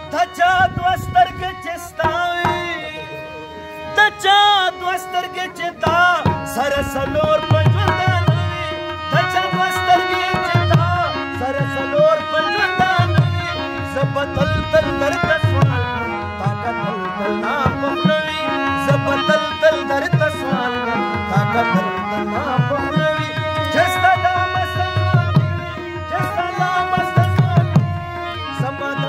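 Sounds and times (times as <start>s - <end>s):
harmonium: 0.0s - 29.0s
keyboard melody: 0.0s - 29.0s
tabla rhythm: 0.0s - 29.0s.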